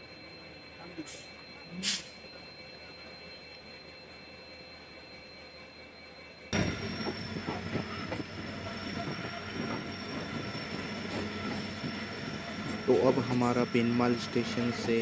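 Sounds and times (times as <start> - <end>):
wheels squealing on rail: 0.0 - 15.0.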